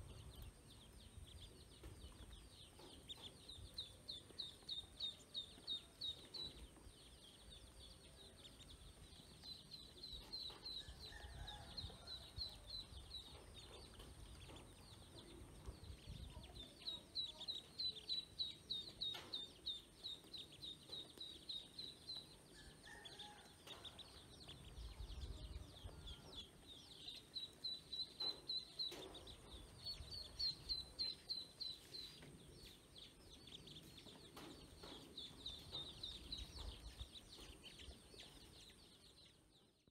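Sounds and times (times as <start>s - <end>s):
ducklings peeping: 0.0s - 39.8s.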